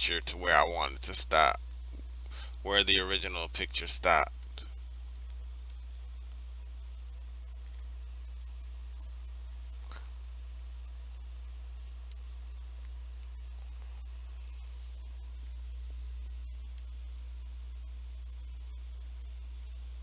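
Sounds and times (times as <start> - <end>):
stylus scratching on tablet: 0.0 - 1.6, 2.4 - 20.0
low hum: 0.0 - 20.0.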